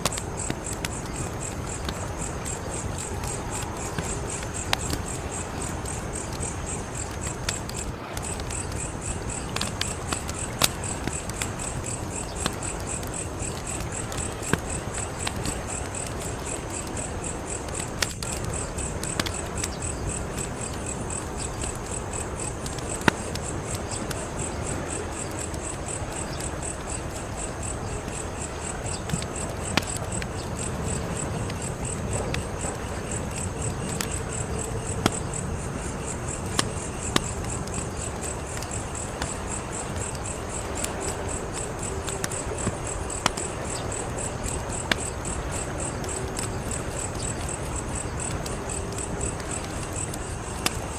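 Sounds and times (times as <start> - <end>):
fire popping: 0.0 - 50.9
insects chirping: 0.0 - 50.9
wood fire crackling: 0.0 - 50.9.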